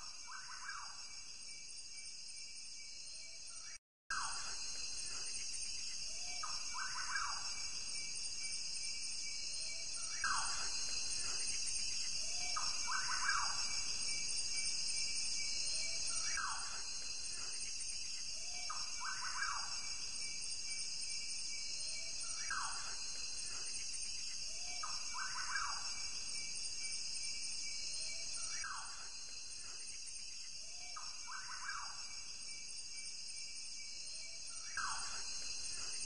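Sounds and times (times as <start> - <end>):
high drone of insects: 0.0 - 36.0.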